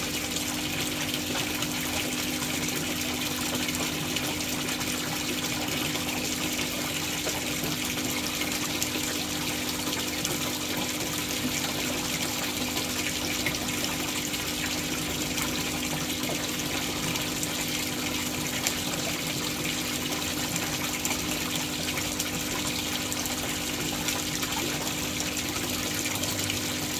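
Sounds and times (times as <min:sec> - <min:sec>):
water pouring into pond: 0:00.0 - 0:26.9.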